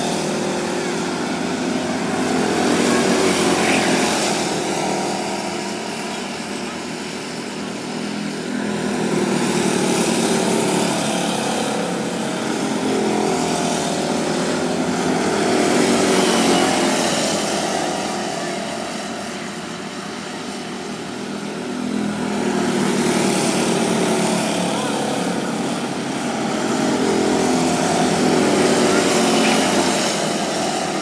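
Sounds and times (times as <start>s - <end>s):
small race car engines: 0.0s - 31.0s.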